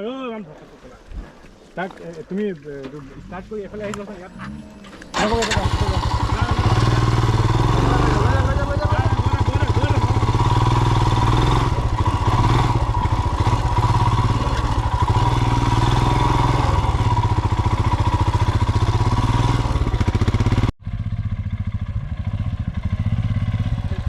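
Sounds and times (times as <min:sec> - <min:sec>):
motorcycle engine running: 0:04.0 - 0:24.0.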